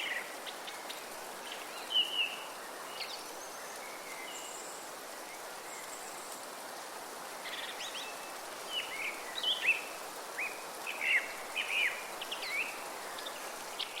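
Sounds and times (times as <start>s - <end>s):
wind through trees: 0.0s - 14.0s.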